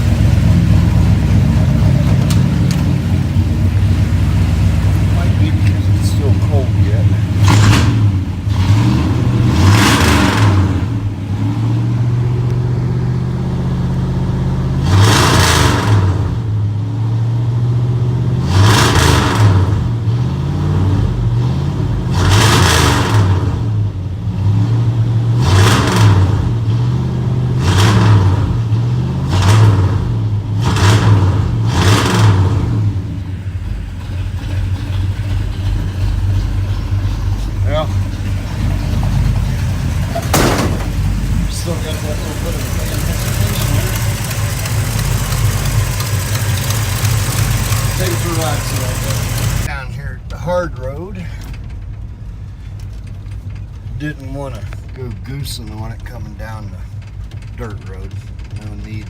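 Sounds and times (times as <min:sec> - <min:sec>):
engine idling and revving: 0:00.0 - 0:59.0.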